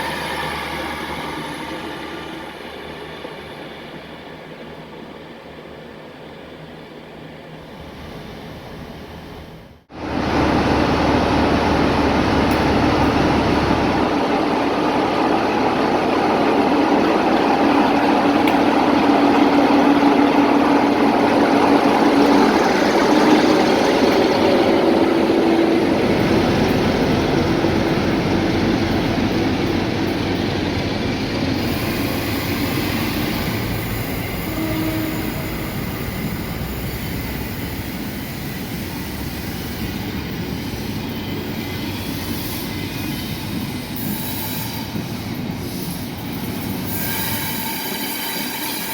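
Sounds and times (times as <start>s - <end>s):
train rumbling past: 0.0s - 48.9s.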